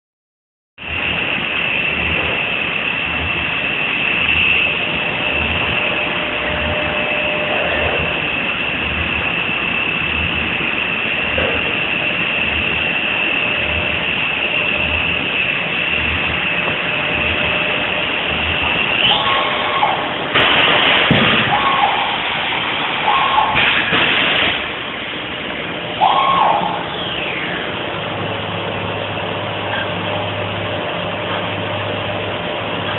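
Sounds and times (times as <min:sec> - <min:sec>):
high-pitched whine: 0:00.8 - 0:32.9.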